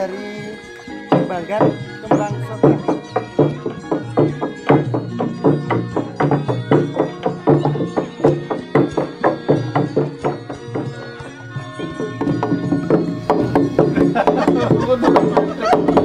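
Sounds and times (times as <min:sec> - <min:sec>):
wooden pestles pounding trough: 0:01.0 - 0:16.0.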